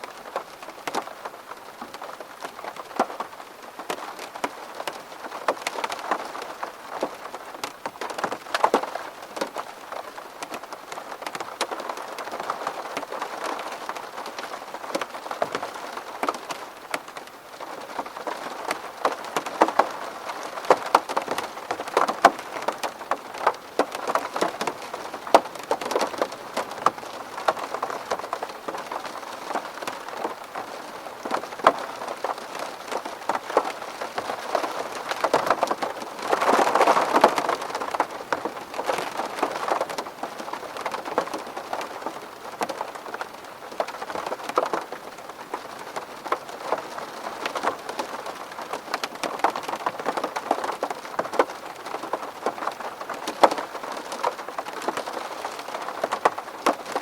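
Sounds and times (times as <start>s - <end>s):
rain pattering on window: 0.0s - 57.0s.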